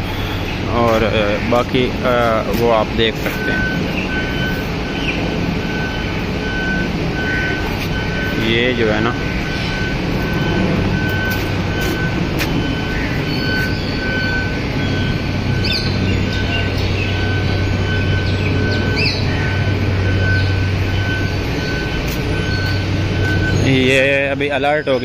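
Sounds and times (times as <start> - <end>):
steady low rumble: 0.0 - 25.0
bird chirps: 3.0 - 25.0.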